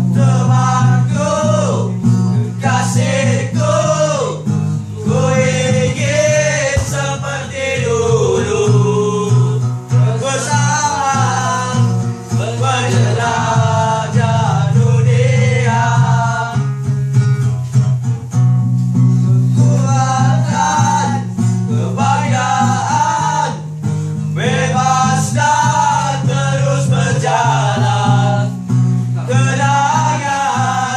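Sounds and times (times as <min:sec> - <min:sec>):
men singing together: 0:00.0 - 0:17.8, 0:19.1 - 0:30.9
acoustic guitar: 0:00.0 - 0:30.9.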